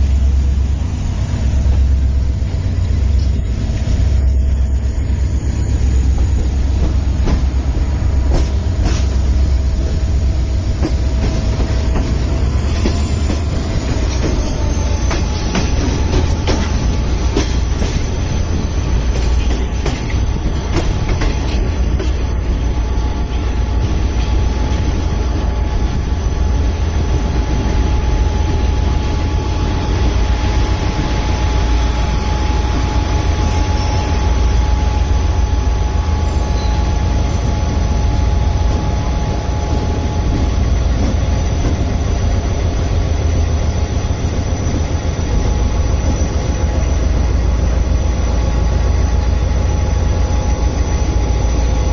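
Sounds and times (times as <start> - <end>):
thin steady whine: 0.0 - 51.9
train wheels rumbling on rail: 0.0 - 51.9.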